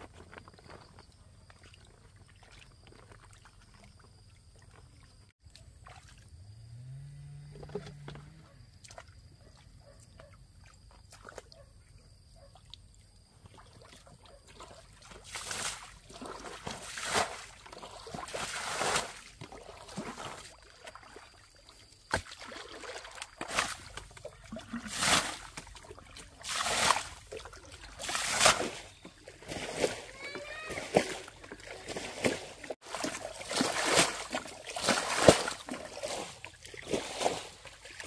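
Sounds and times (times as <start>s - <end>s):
pond water splashing: 1.0s - 38.0s.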